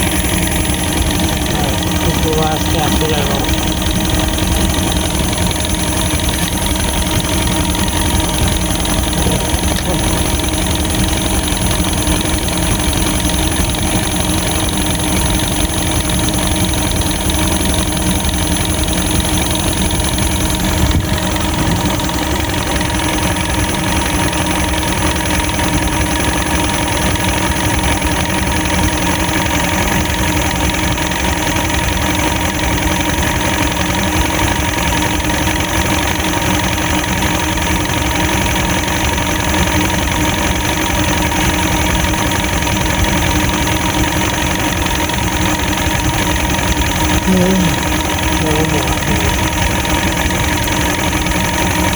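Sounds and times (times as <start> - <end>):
outboard motor idling: 0.0 - 51.9.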